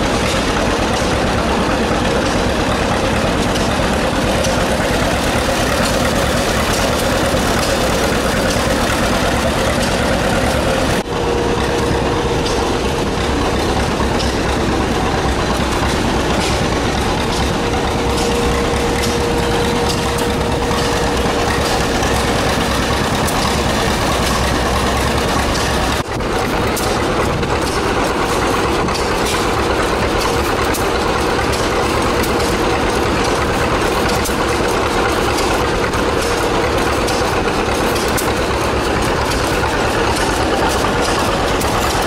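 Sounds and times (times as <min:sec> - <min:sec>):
threshing machine clatter and hum: 0:00.0 - 0:42.0.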